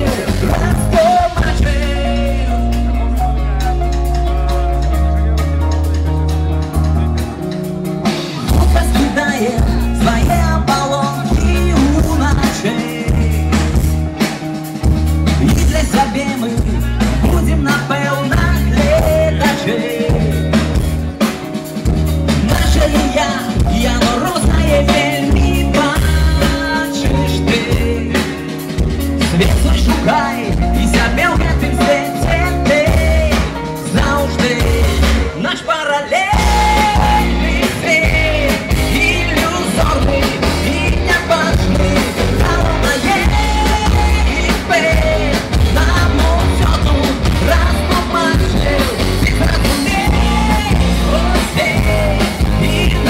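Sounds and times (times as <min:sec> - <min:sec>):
singer: 0:00.0 - 0:07.5, 0:08.4 - 0:21.4, 0:22.3 - 0:53.0
live rock band playing: 0:00.0 - 0:53.0.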